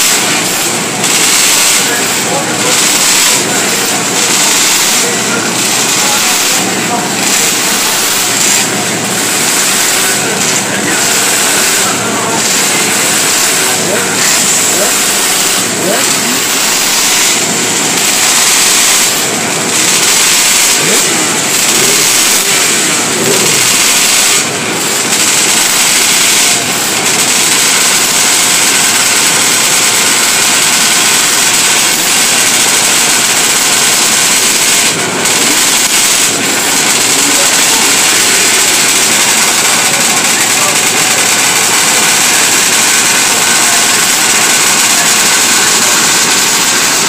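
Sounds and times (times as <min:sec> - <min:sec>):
motorcycle engines revving: 0:00.0 - 0:47.0.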